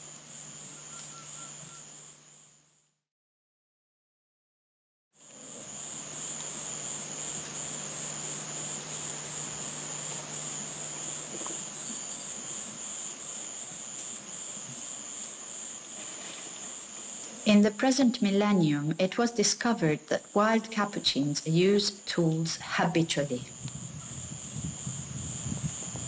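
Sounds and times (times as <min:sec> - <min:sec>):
high-pitched insect chorus: 0:00.0 - 0:02.4, 0:05.2 - 0:26.0.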